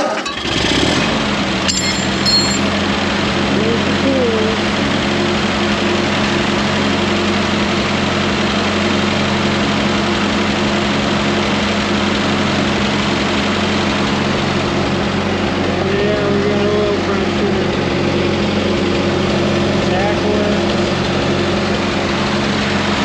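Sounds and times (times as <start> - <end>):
tractor engine idling: 0.4 - 23.0.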